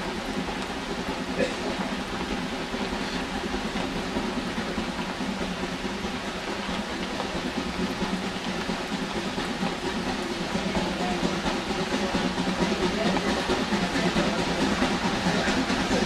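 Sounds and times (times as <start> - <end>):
train rumbling along rails: 0.0 - 16.0.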